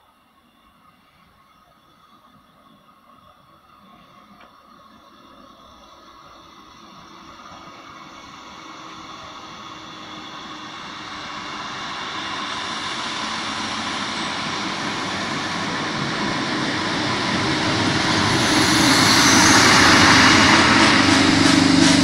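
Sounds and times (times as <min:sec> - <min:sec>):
electric train running on rails: 0:00.0 - 0:22.0.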